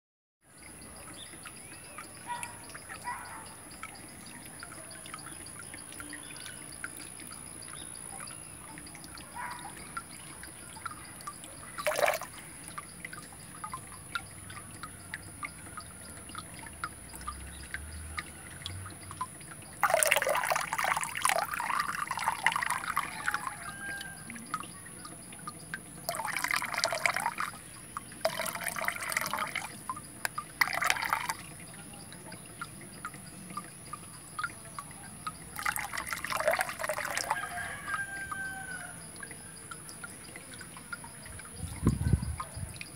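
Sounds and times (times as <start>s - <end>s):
water drips: 0.4s - 42.9s
water splashing into fish tank: 0.5s - 42.9s.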